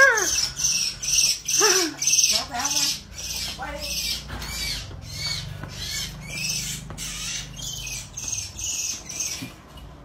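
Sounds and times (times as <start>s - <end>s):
rodent squealing: 0.0s - 9.6s.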